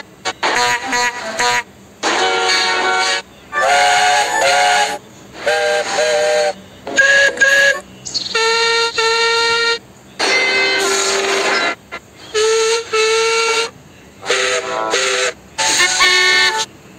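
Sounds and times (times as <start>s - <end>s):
steam locomotive whistle toots: 0.0s - 16.7s.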